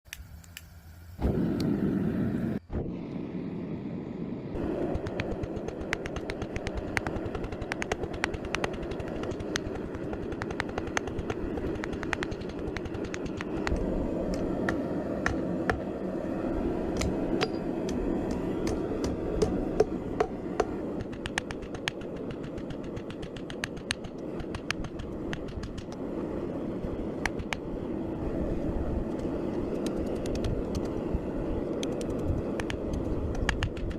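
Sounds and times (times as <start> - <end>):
forge fire rushing: 1.2 - 33.9.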